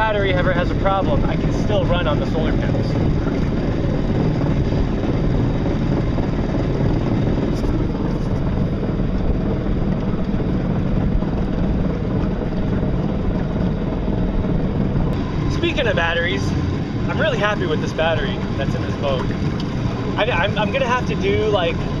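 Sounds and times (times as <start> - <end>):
water rushing against hull: 0.0 - 22.0
wind: 0.0 - 22.0.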